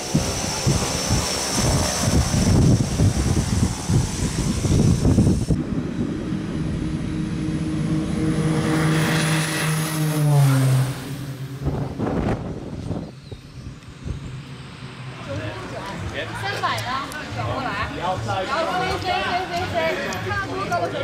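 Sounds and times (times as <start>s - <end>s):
turboprop plane engines droning: 0.0s - 21.0s.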